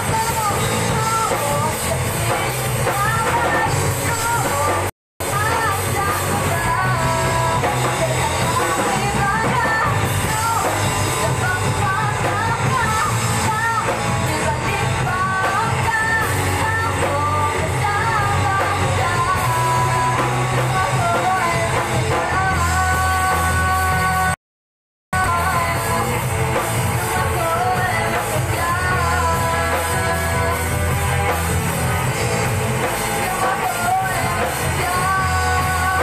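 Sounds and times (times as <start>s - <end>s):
live rock band playing: 0.0s - 24.4s, 25.1s - 36.0s
woman singing lead: 0.0s - 24.4s, 25.2s - 36.0s.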